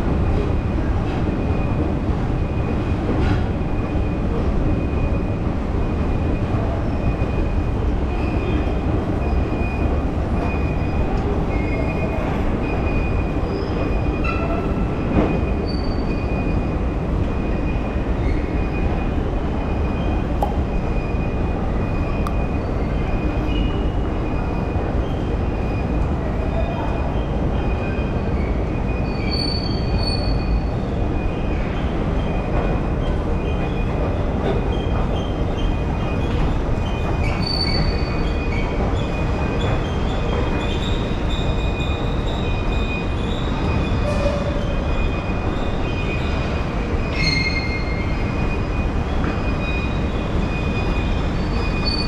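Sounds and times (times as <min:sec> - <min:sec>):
metro train low rumble: 0:00.0 - 0:52.0
train wheel squeals: 0:06.2 - 0:52.0.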